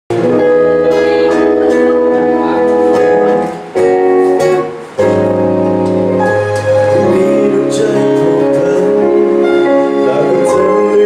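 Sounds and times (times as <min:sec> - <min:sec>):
guitar playing sustained chords: 0:00.1 - 0:11.0.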